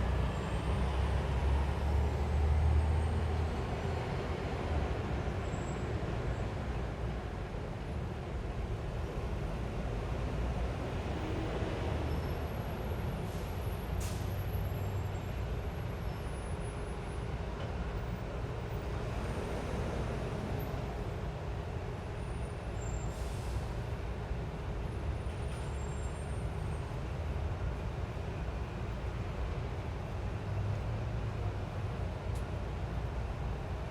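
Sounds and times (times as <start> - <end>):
rumble of passing vehicles: 0.0 - 33.9.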